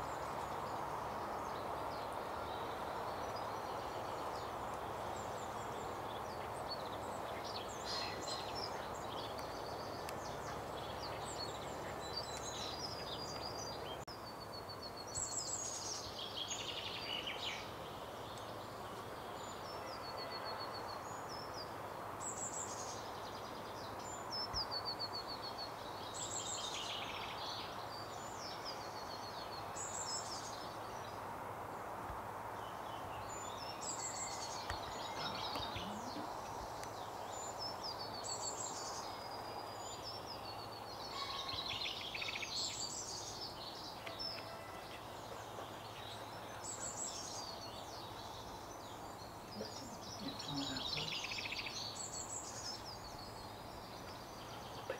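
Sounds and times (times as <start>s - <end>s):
songbird singing with trill: 0.0s - 31.2s, 32.5s - 54.9s
steady outdoor hiss: 0.0s - 54.9s.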